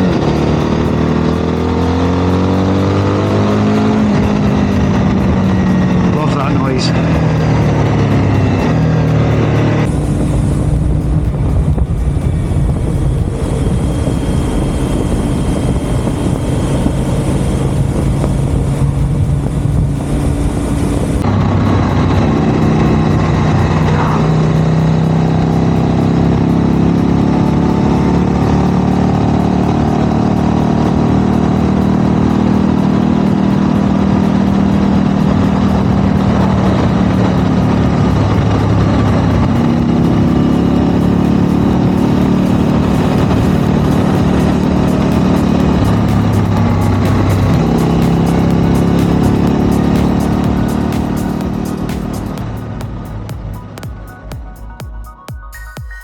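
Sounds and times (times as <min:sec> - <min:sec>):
motorcycle engine deep note: 0:00.0 - 0:55.6.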